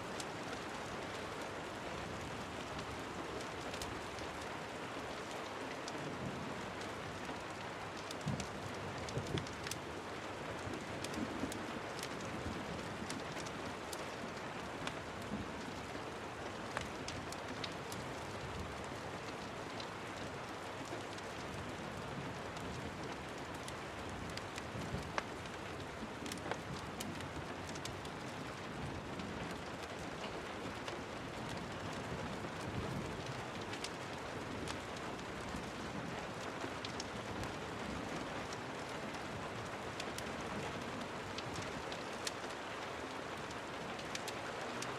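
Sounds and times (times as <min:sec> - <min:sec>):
steady rain hiss: 0:00.0 - 0:44.9
wood fire crackling: 0:00.0 - 0:44.9.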